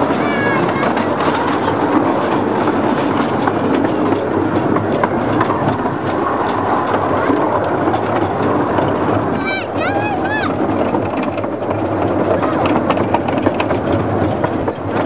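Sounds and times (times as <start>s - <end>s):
miniature train rumble and hiss: 0.0s - 15.0s
wheels clicking on rails: 0.0s - 15.0s.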